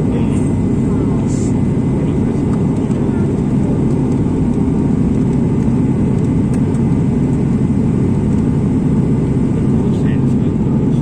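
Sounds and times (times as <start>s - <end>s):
jet airliner engines rumbling: 0.0s - 11.0s.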